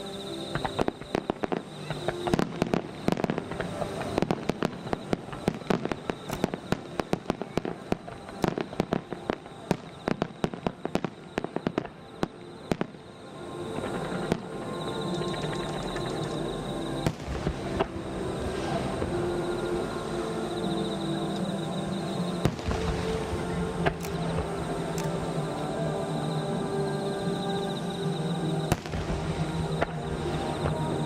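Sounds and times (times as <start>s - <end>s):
distant fireworks bangs and crackles: 0.0s - 20.0s, 20.6s - 31.0s.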